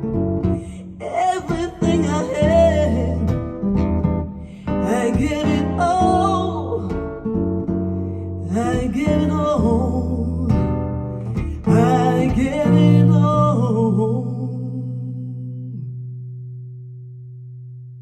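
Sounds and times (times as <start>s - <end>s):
guitar pop song over loudspeakers: 0.0s - 15.6s.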